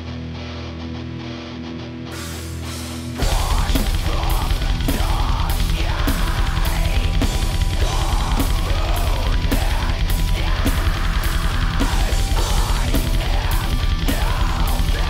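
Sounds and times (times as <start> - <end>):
heavy metal band playing: 0.0 - 15.0
electronic drum kit: 2.2 - 15.0.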